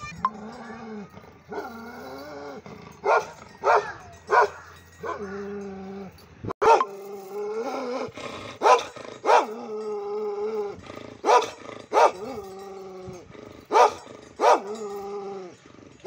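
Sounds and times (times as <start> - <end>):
dog barking with long cries: 0.0 - 12.6, 13.5 - 15.6.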